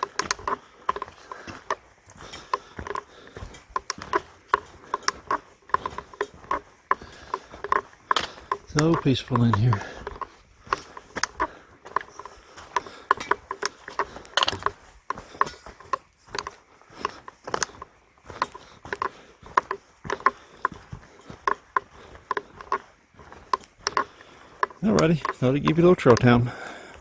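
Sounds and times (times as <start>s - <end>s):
footsteps on rocky trail: 0.0s - 27.0s.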